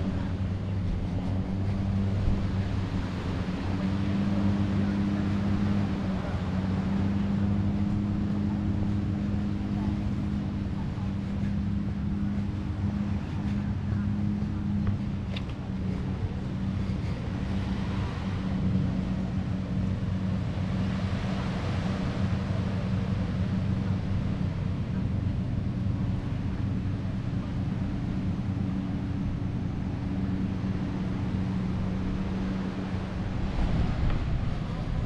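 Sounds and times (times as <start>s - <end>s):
boat engine running: 0.0s - 35.0s
surf washing in: 0.0s - 35.0s
wind buffeting microphone: 0.0s - 35.0s.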